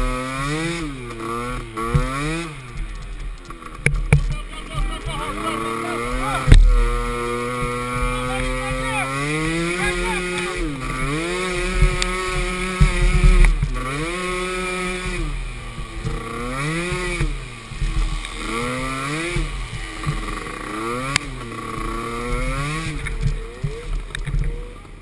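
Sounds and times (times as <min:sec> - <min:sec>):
small atv engines revving: 0:00.0 - 0:25.0.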